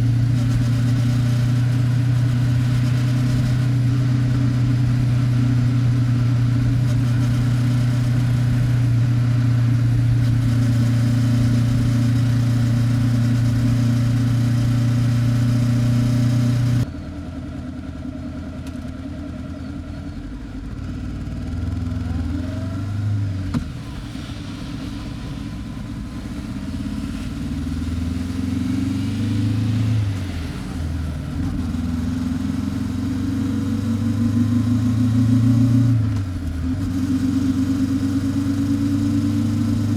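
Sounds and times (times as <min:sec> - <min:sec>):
motorcycle engine revving: 0:00.0 - 0:16.9, 0:20.5 - 0:39.9.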